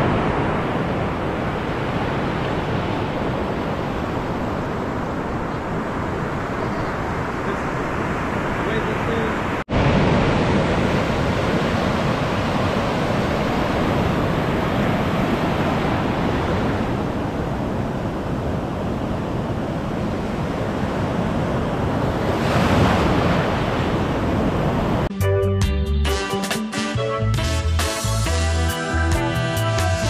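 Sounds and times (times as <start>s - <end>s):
waves breaking on beach: 0.0s - 25.1s
wind buffeting microphone: 0.0s - 25.1s.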